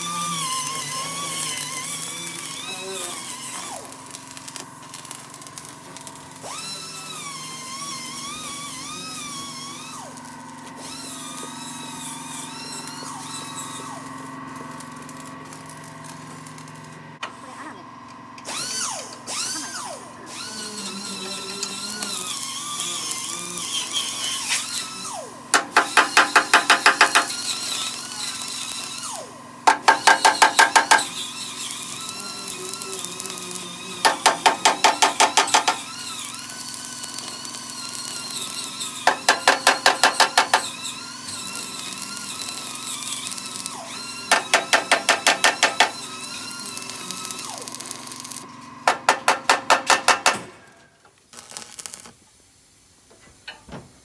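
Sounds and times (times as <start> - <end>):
arc welding crackle: 0.0 - 17.6, 18.4 - 54.0.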